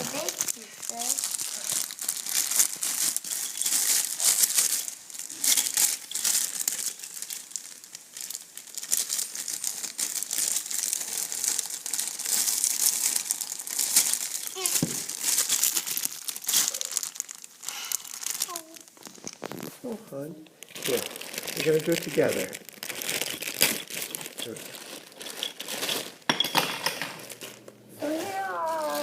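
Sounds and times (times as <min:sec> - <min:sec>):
plastic packaging crinkling: 0:00.0 - 0:19.8, 0:20.6 - 0:29.0.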